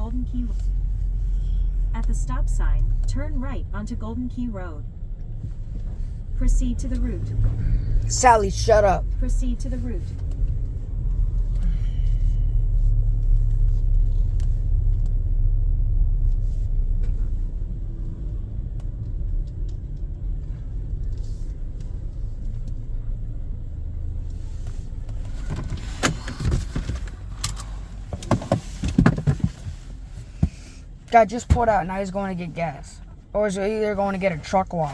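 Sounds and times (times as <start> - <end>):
vehicle road rumble: 0.0 - 34.9.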